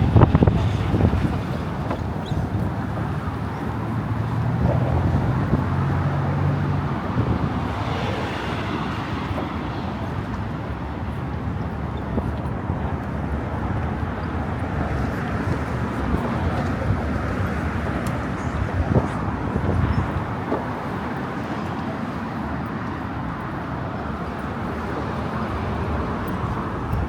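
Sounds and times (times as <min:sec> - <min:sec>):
road traffic noise: 0:00.0 - 0:27.0.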